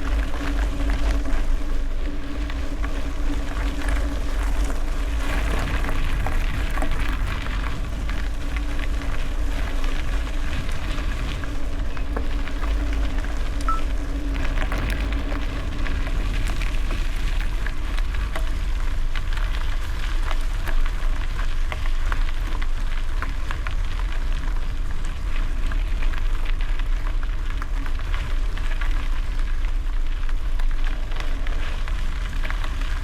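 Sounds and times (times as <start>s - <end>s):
bicycle tyres on gravel: 0.0s - 33.0s
faint steady hum: 0.0s - 33.0s
wind rumbling on microphone: 0.0s - 33.0s.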